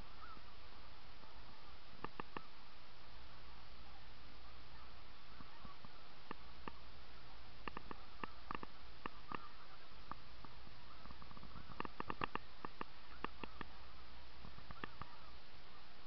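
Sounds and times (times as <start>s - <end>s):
geese yelping: 0.0s - 0.6s, 1.2s - 2.6s, 3.8s - 16.0s
steady hiss: 0.0s - 16.0s.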